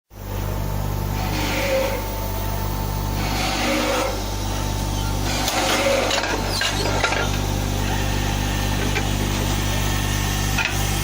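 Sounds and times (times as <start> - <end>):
drilling machine humming: 0.2 - 11.0
machine whirring: 0.3 - 11.0.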